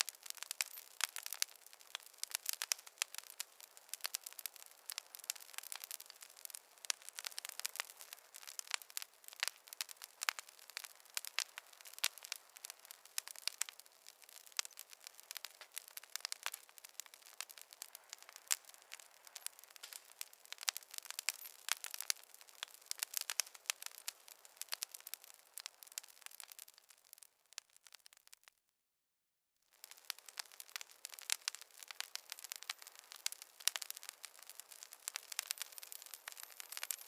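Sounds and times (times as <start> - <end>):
wood fire crackling: 0.0 - 28.6, 29.7 - 37.0.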